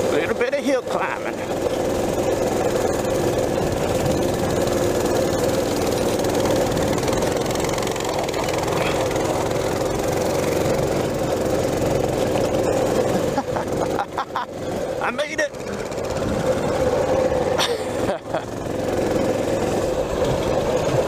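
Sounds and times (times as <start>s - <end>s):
small bike engine running: 0.0s - 21.0s.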